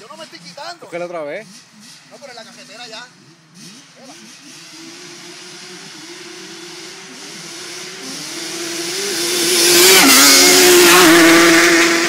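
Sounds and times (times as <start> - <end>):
atv engine accelerating: 0.0 - 12.0.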